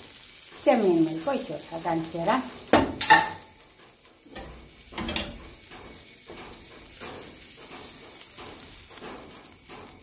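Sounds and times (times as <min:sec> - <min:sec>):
garlic butter sizzling: 0:00.0 - 0:10.0.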